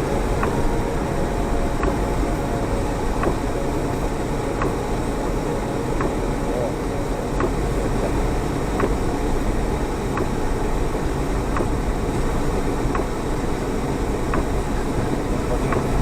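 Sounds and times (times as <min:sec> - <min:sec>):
faint ticking: 0:00.0 - 0:16.0
vehicle engine and tyres rumbling: 0:00.0 - 0:16.0.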